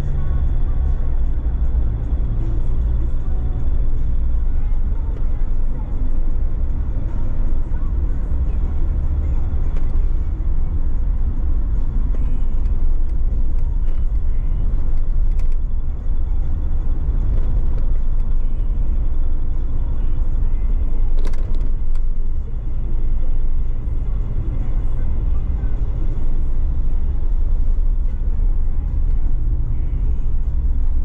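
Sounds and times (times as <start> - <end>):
car driving rumble: 0.0 - 31.0.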